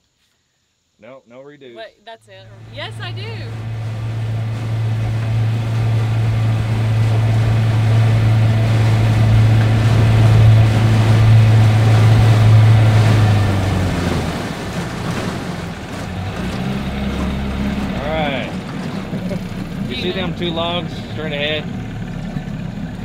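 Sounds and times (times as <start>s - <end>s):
outboard motor running: 2.4s - 23.0s.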